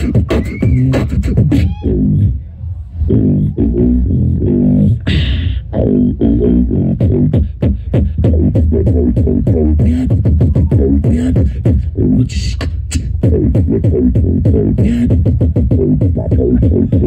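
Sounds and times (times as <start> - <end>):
beatboxing clicks and hisses: 0.0 - 2.3, 3.1 - 17.0
beatboxed low bass tone: 0.0 - 17.0.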